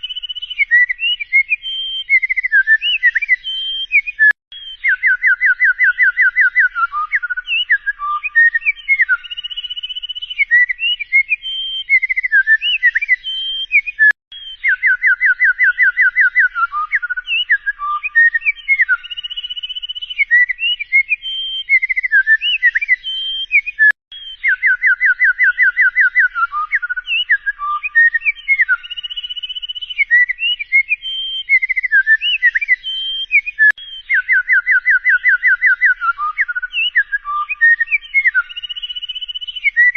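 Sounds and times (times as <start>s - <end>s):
bird song whistles and trills: 0.0s - 39.9s.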